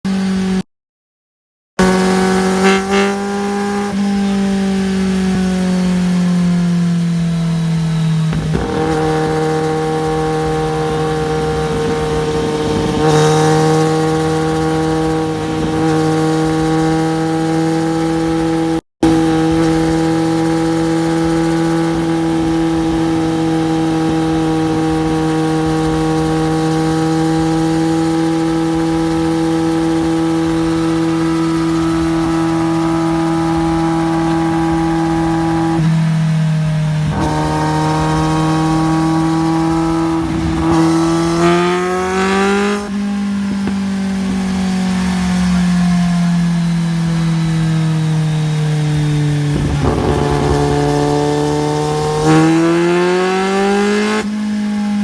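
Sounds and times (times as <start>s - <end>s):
motorcycle engine revving: 0.1s - 0.6s, 1.8s - 55.0s.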